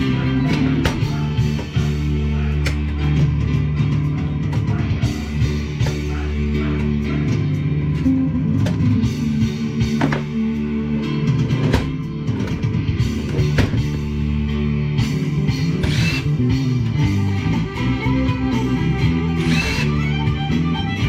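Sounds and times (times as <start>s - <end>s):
rock music with drums: 0.0s - 21.0s.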